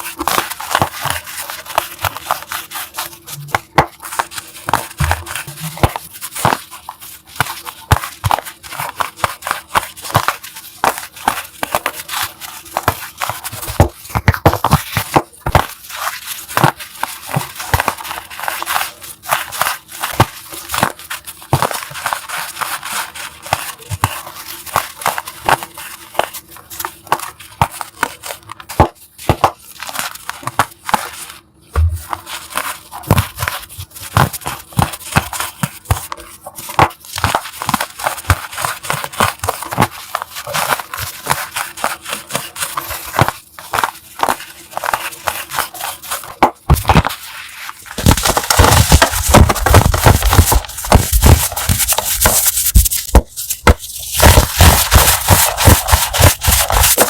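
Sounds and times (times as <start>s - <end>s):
chalk crunching: 0.0s - 57.0s.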